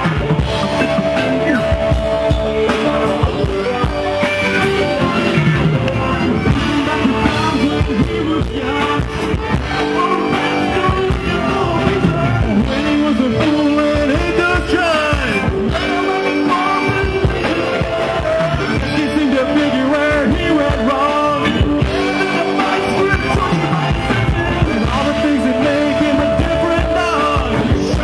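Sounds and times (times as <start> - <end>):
person singing: 0.0 - 28.0
rock band playing: 0.0 - 28.0.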